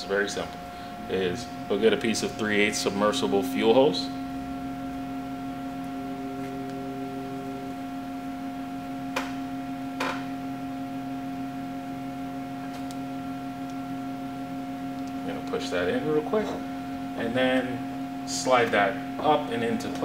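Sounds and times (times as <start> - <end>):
background hum of held tones: 0.0 - 20.0.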